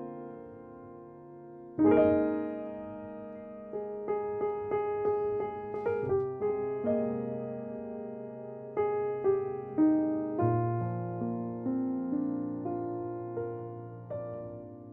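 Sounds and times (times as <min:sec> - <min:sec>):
slow solo piano piece: 0:00.0 - 0:14.9.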